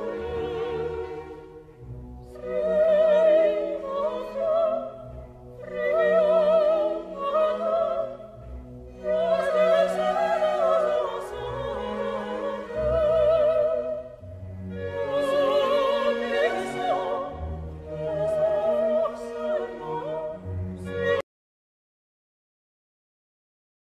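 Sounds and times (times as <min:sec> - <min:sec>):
opera singer with vibrato: 0:00.0 - 0:01.5, 0:02.3 - 0:21.2
classical accompaniment: 0:00.0 - 0:21.2.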